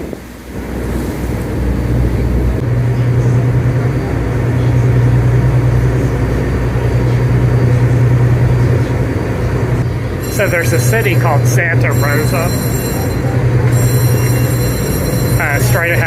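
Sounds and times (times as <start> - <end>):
ferry engine droning: 0.0 - 16.0
rushing noise: 0.0 - 16.0.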